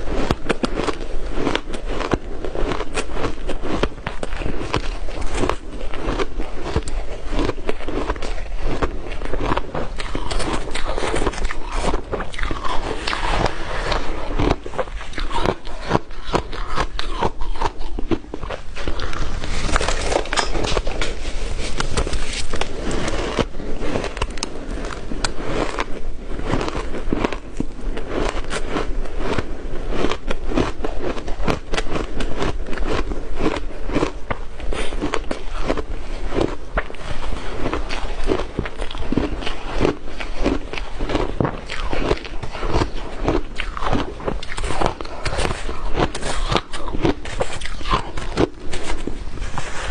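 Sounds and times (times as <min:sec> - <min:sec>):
chewing and crunching ice: 0:00.0 - 0:49.9.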